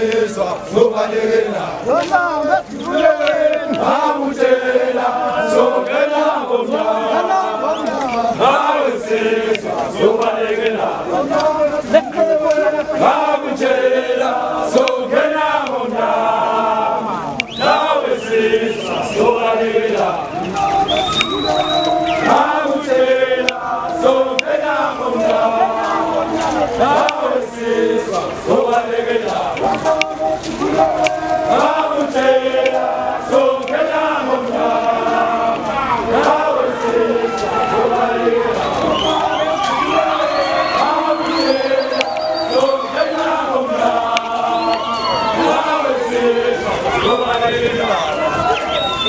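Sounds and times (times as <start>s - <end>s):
men chanting in unison: 0.0s - 49.0s.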